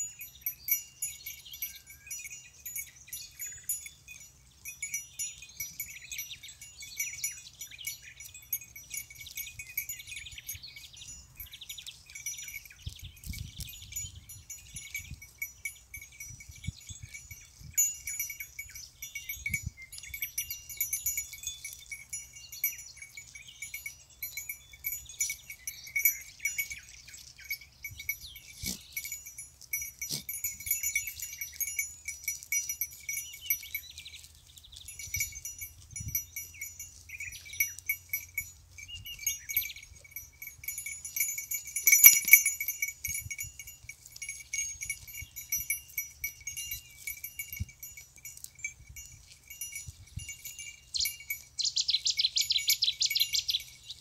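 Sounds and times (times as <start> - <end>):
goat bells clinking: 0.0 - 54.0.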